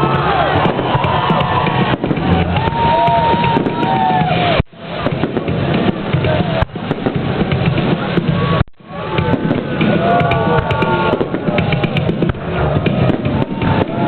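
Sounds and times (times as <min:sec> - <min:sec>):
crowd voices: 0:00.0 - 0:14.0
fireworks bangs and crackles: 0:00.0 - 0:14.0.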